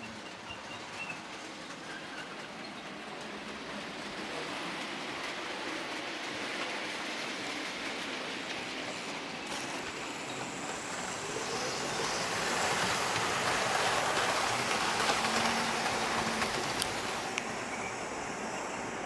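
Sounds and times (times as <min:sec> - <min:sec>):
model train rumbling on track: 0:00.0 - 0:19.0.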